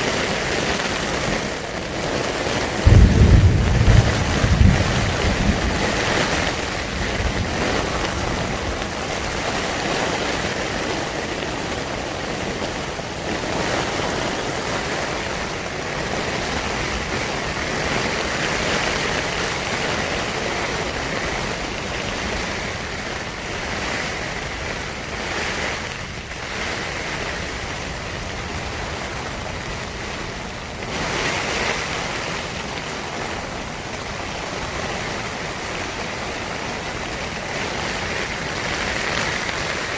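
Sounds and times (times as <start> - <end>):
heavy rain: 0.0 - 39.9
wind: 0.0 - 39.9.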